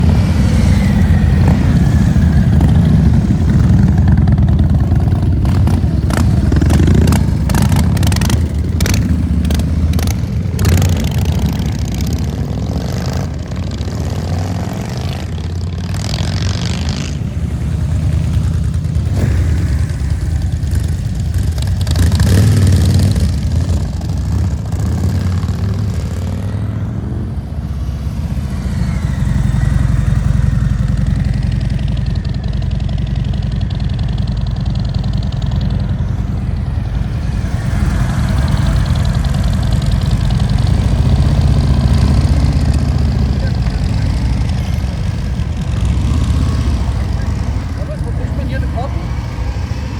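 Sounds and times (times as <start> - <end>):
motorcycle engines revving: 0.0 - 49.9.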